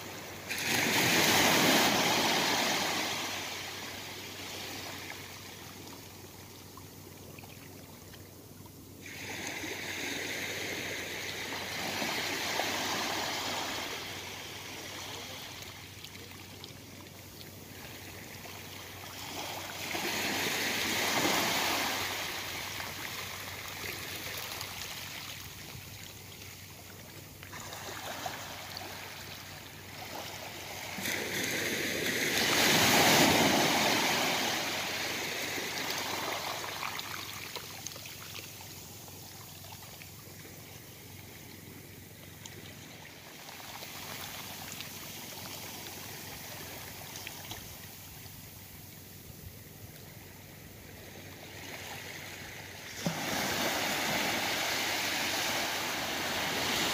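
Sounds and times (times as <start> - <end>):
small waves lapping on beach: 0.0 - 56.9.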